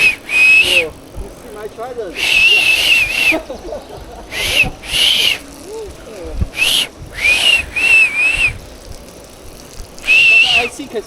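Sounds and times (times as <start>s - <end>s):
bicycle brakes squealing: 0.0s - 10.9s.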